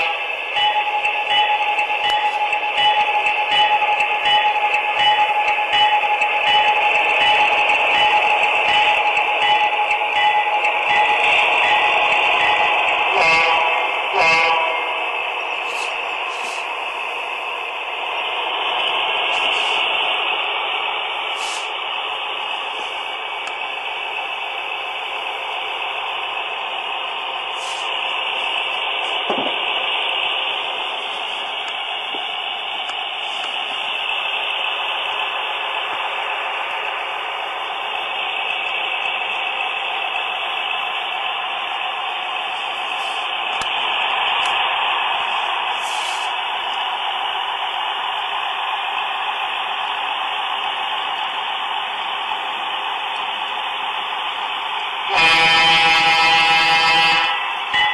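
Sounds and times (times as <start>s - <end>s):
model trains rolling on track: 0.0s - 57.9s.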